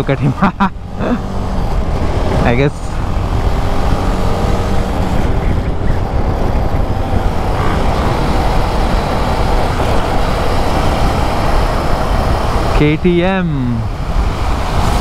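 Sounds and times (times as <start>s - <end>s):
motorcycle engine running: 0.0s - 15.0s
wind rushing over microphone: 0.8s - 15.0s.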